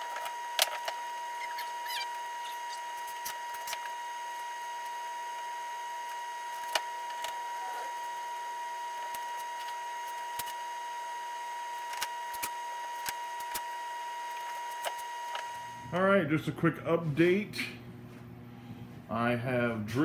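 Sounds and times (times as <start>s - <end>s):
high-pitched whine: 0.0s - 16.1s.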